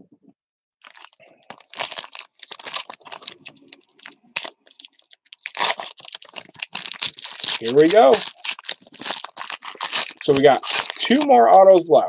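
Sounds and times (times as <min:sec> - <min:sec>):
foil wrapper ripping and crackling: 0:00.8 - 0:11.4.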